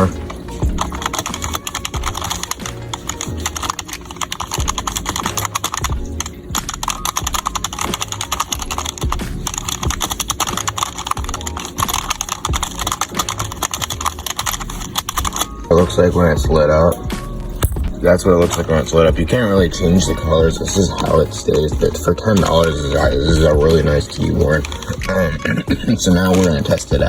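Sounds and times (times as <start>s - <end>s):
rapid keyboard typing: 0.0s - 27.0s.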